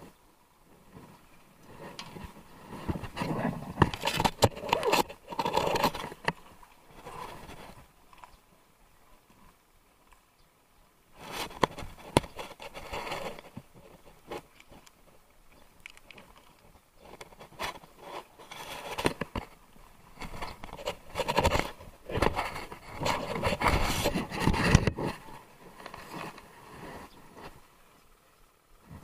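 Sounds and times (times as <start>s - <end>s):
scraping and rustling handling noise: 0.7s - 8.3s, 11.2s - 27.8s.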